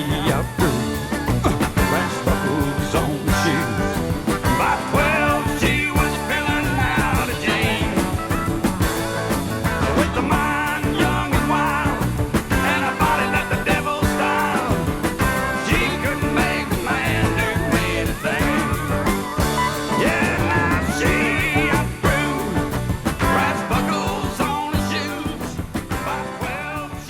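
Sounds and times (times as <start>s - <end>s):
country band playing: 0.0s - 27.0s.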